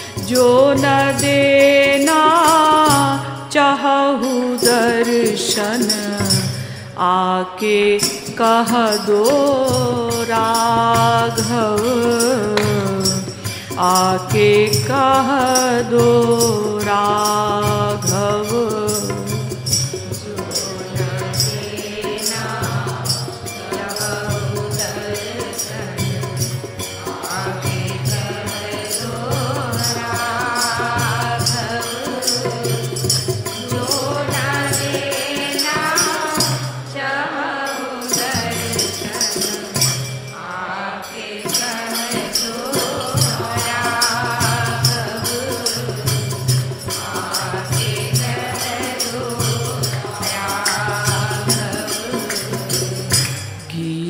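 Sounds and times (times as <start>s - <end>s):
hand cymbals jingling: 0.0s - 53.8s.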